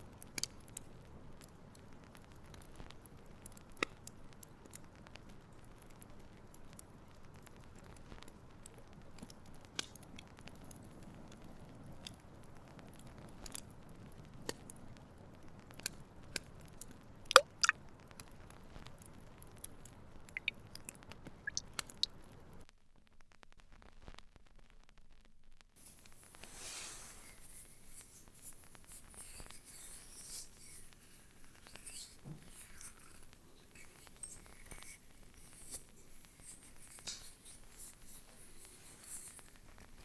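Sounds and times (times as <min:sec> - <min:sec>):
small objects clicking and tapping: 0:00.0 - 0:24.3, 0:25.8 - 0:40.0.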